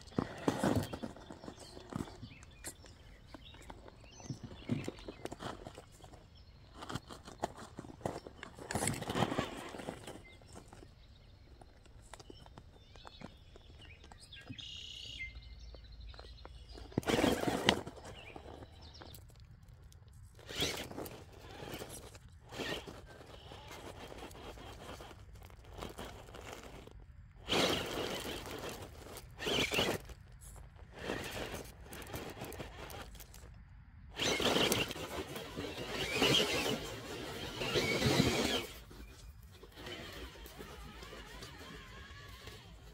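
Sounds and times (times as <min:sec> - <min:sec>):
tyres scrabbling on stone: 0:00.0 - 0:14.8, 0:15.8 - 0:42.9.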